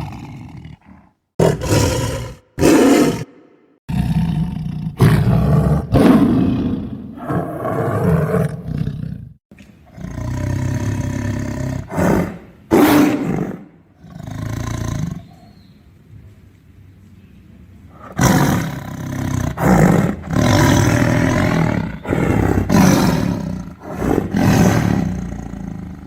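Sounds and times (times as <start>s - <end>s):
tiger roaring: 0.0s - 9.3s, 9.9s - 15.4s, 18.0s - 26.0s.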